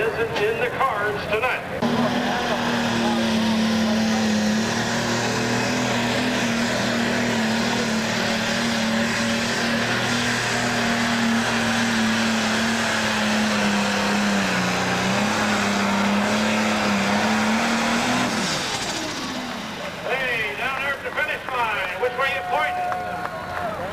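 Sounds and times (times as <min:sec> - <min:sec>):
diesel tractor engine droning: 0:00.0 - 0:23.9.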